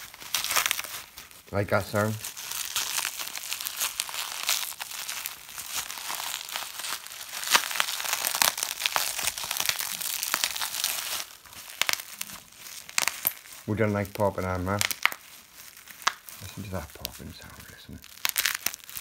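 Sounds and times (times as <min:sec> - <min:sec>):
bubble wrap pops: 0:00.0 - 0:01.4, 0:02.0 - 0:19.0
bubble wrap crinkling: 0:00.0 - 0:19.0.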